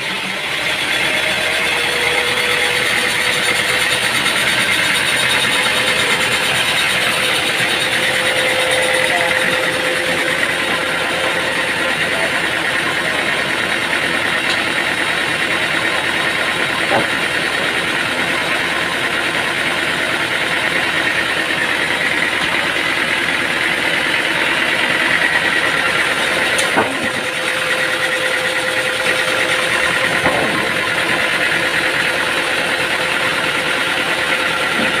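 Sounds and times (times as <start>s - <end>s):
machinery drone with whine: 0.0s - 35.0s.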